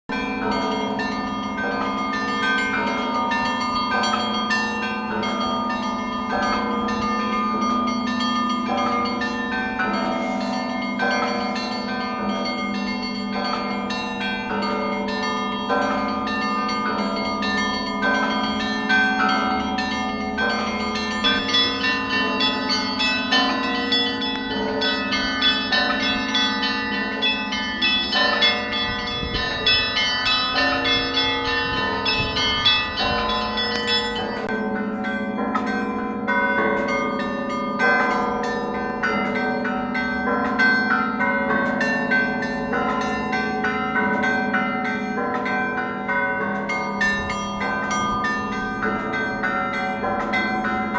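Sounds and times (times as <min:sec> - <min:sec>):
large bells humming: 0:00.1 - 0:50.9.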